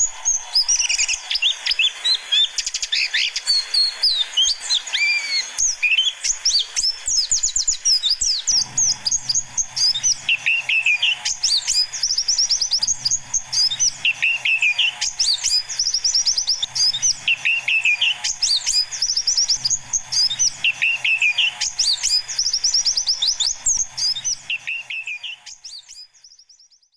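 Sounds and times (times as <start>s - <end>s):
birds chirping and singing: 0.0s - 26.9s.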